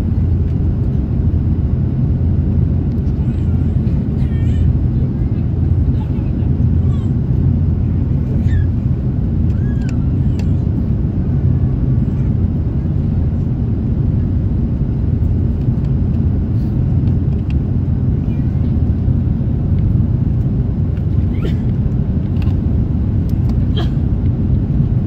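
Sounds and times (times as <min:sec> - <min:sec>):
vehicle rumble from inside: 0:00.0 - 0:25.0.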